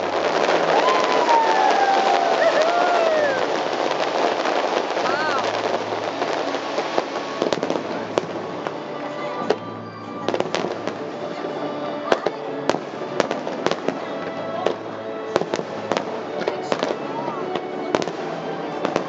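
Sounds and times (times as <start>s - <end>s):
fireworks bangs and cracks: 0.0s - 19.0s
music: 0.0s - 19.0s.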